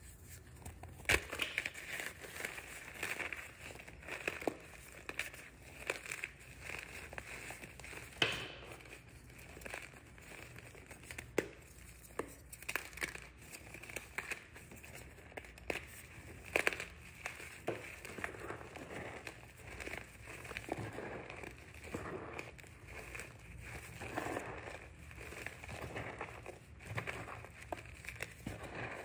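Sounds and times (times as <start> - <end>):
powdery crumbling: 0.0 - 29.0.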